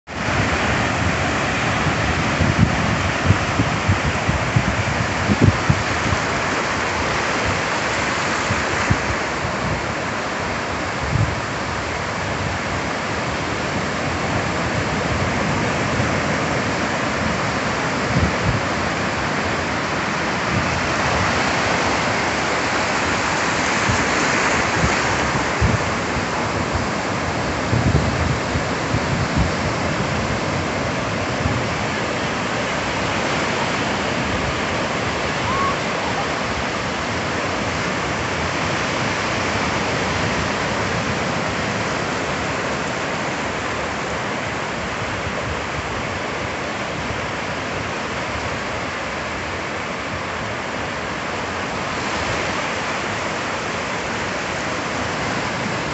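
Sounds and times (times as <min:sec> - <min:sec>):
ocean waves breaking on beach: 0:00.1 - 0:55.9.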